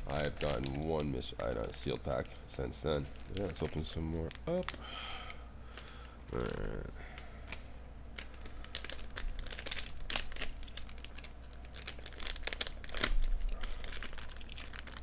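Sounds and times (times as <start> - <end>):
plastic wrapper crinkling: 0.0 - 4.8, 7.4 - 15.0.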